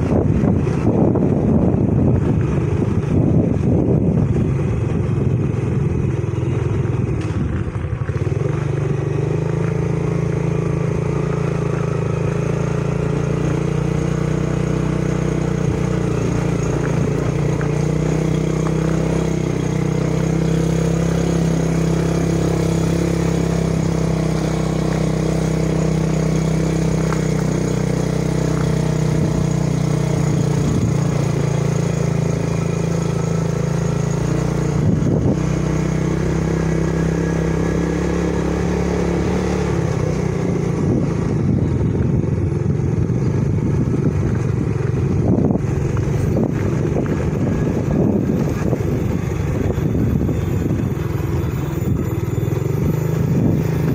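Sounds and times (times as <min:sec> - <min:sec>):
motorcycle engine running: 0:00.0 - 0:53.9
wind rumbling on microphone: 0:00.0 - 0:53.9.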